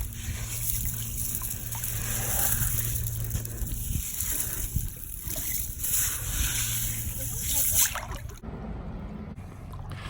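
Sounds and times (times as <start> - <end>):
water lapping against rocks: 0.0 - 8.4
low steady hum: 0.0 - 10.0.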